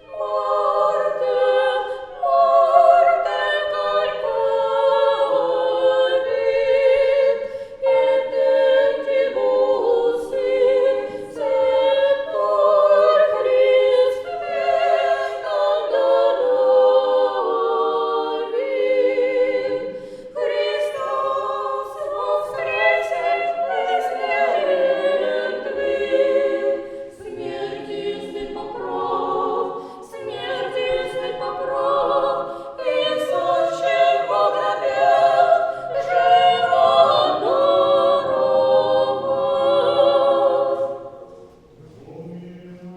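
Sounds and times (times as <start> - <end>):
choir singing unaccompanied chant: 0.0 - 42.9.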